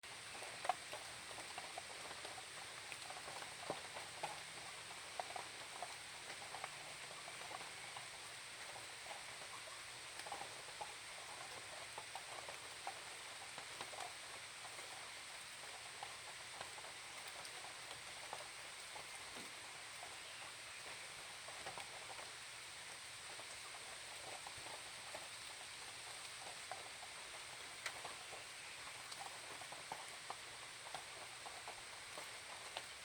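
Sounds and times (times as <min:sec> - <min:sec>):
light rain hiss: 0:00.0 - 0:33.0.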